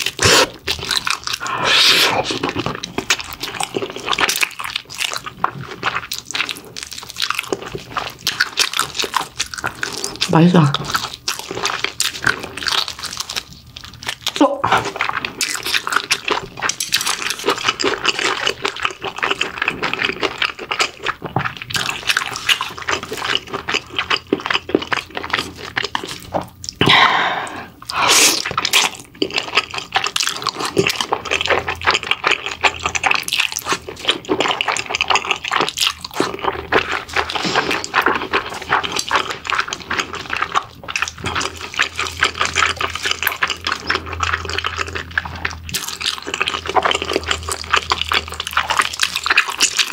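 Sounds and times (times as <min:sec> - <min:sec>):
wet chewing and lip smacking: 0:00.0 - 0:26.9, 0:27.7 - 0:49.9.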